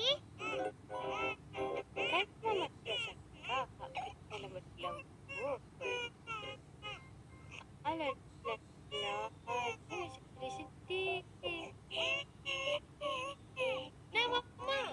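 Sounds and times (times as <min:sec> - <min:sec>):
child babbling sing-song: 0:00.0 - 0:14.9.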